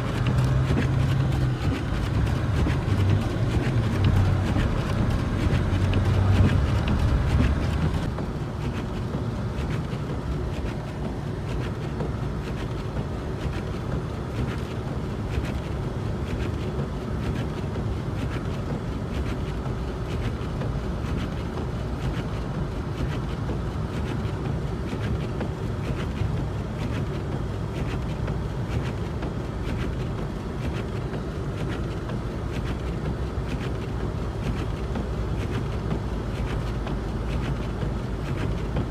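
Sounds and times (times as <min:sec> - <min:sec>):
car tyres on slushy road: 0:00.0 - 0:38.9.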